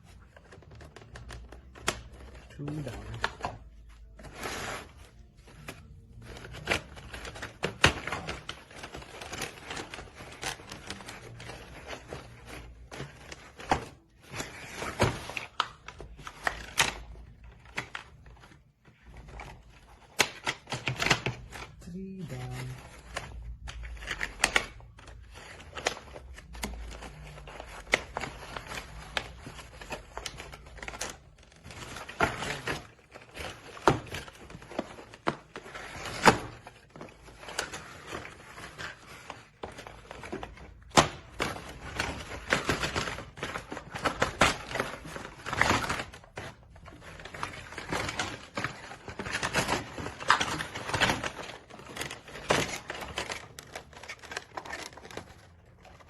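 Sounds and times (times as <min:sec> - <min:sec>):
plastic and cardboard packaging rustling: 0:00.0 - 0:56.0.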